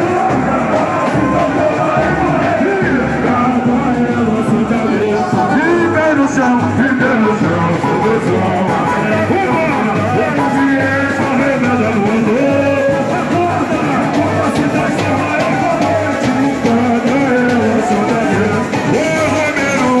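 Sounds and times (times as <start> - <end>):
amplified accompaniment: 0.0 - 20.0
men singing together: 0.0 - 20.0
steady low drum beat: 0.0 - 20.0.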